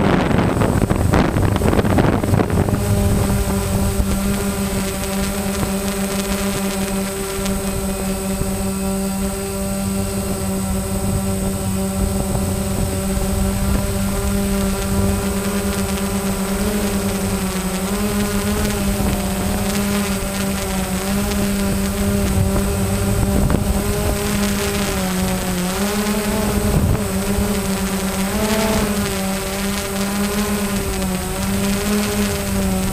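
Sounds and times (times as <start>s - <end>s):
drone propellers buzzing: 0.0s - 32.9s.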